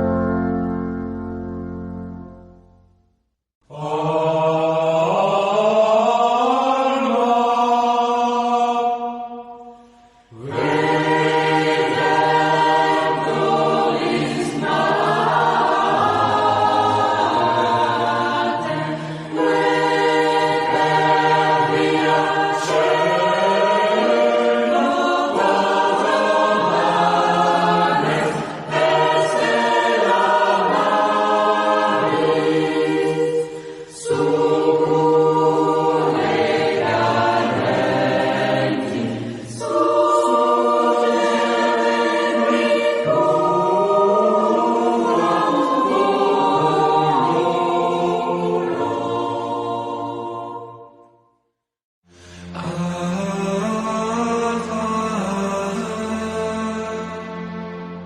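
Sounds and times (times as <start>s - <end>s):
choir singing sacred piece: 3.6s - 51.2s, 52.4s - 58.0s.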